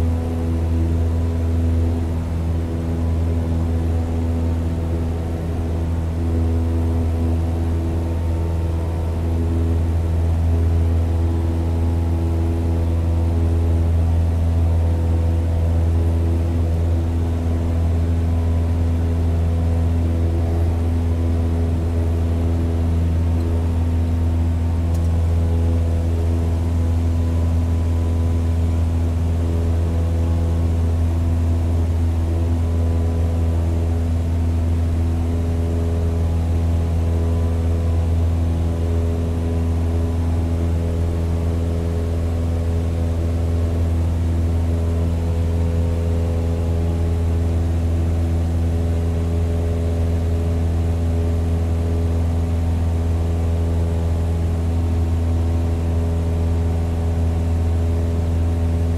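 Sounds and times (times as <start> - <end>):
plane engine and propeller hum: 0.0 - 58.9.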